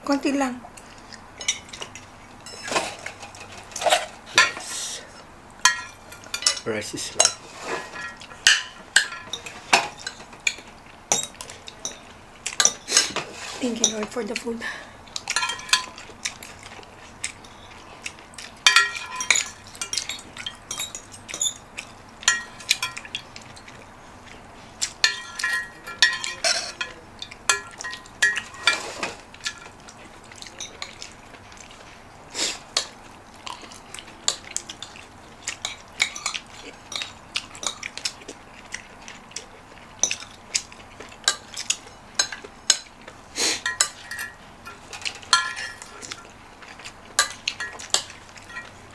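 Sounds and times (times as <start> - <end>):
cutlery clinking on a plate: 1.4 - 4.7, 5.6 - 14.1, 15.2 - 31.9, 32.7 - 38.2, 40.0 - 48.9.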